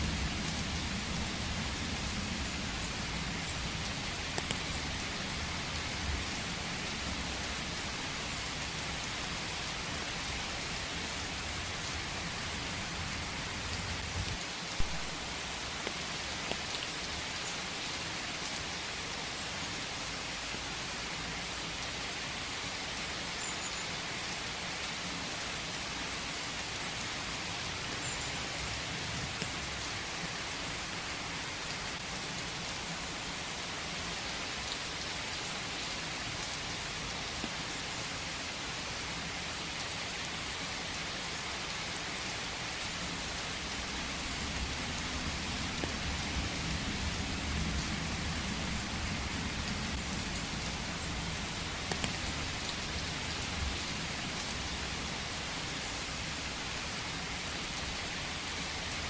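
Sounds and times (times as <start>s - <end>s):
rain falling on a forest: 0.0s - 59.0s.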